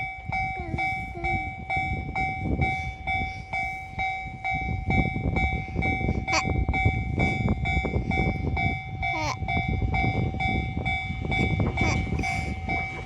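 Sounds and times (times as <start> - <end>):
heavy low rumble: 0.0 - 13.0
level crossing warning bell: 0.0 - 13.0.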